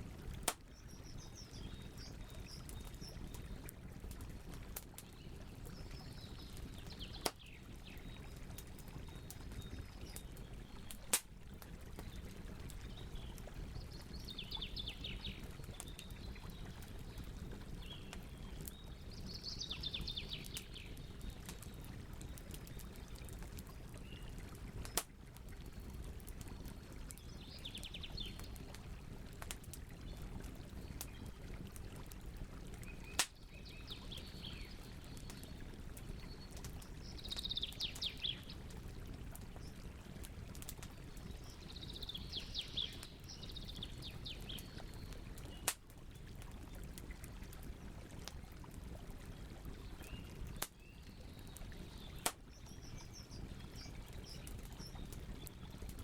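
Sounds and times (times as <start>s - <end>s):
campfire burning: 0.0s - 56.0s.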